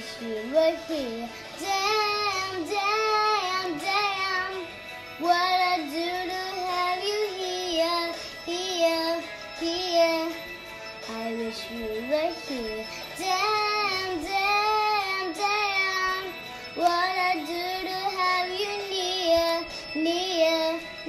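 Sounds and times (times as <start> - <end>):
girl singing wordless melody: 0.0 - 21.0.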